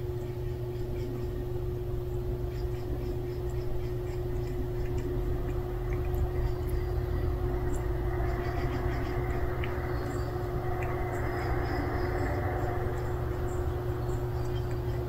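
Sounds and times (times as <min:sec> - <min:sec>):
constant mid-pitched tone: 0:00.0 - 0:15.0
low mechanical hum: 0:00.0 - 0:15.0.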